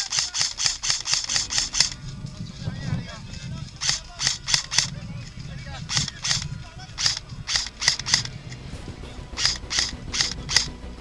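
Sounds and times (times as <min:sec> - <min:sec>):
airsoft gun shots: 0:00.0 - 0:02.0, 0:03.7 - 0:10.9.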